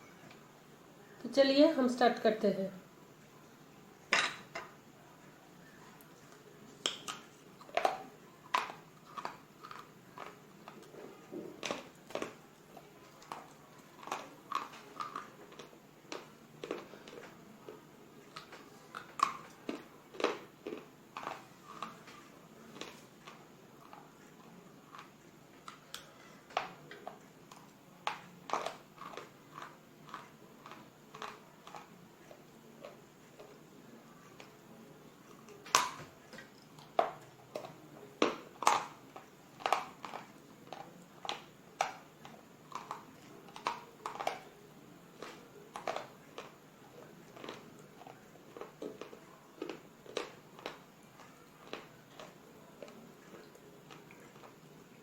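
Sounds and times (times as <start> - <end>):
person chewing with sharp crunches: 6.0 - 33.6, 35.3 - 44.6, 45.2 - 54.8.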